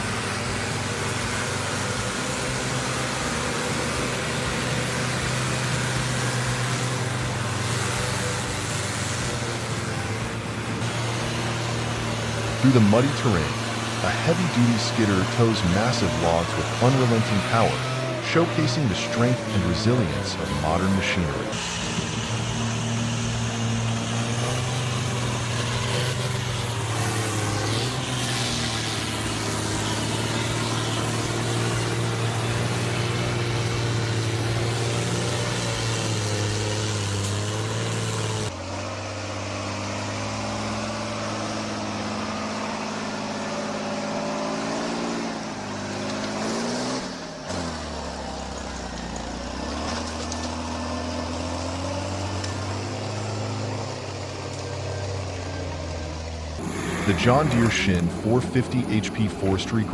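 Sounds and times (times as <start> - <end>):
heavy diesel engines under load: 0.0 - 59.9.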